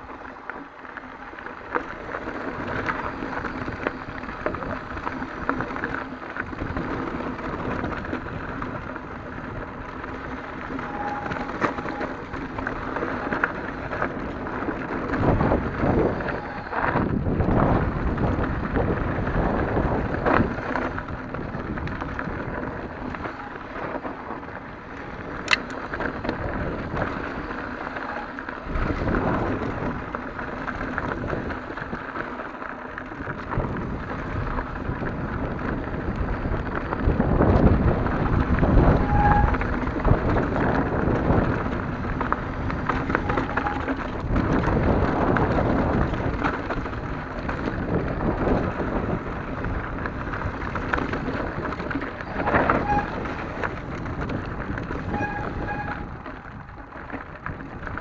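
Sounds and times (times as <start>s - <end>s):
bike rattling: 0.0s - 58.0s
bike tyres crunching over gravel: 0.0s - 58.0s
wind on microphone: 2.0s - 32.2s, 33.1s - 58.0s.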